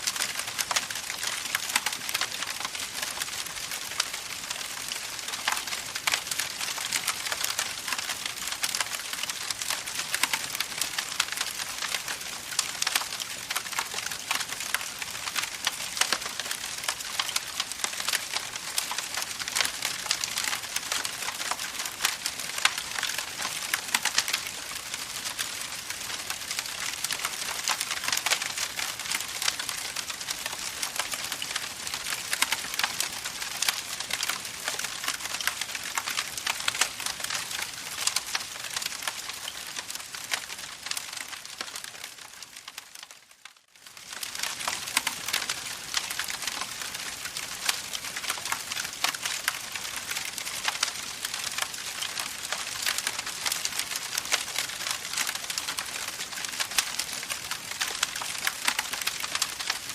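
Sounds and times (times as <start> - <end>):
campfire crackling: 0.0 - 43.1, 43.9 - 59.9.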